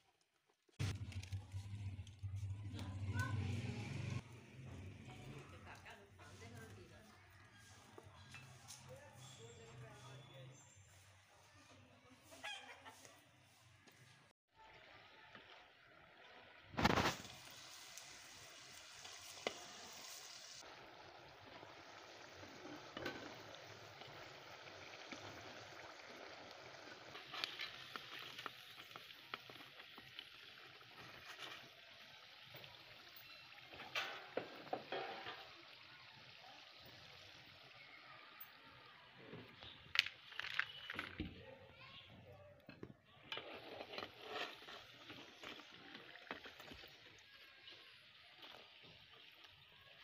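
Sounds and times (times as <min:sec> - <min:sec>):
fries sizzling in oil: 0:00.7 - 0:41.1, 0:42.0 - 0:50.0.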